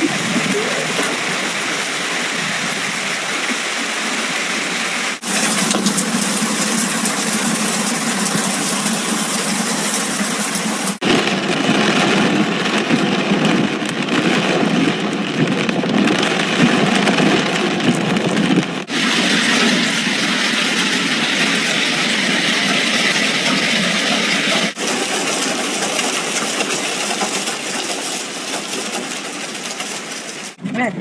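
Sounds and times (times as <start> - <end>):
heavy hail and rain: 0.0 - 30.6.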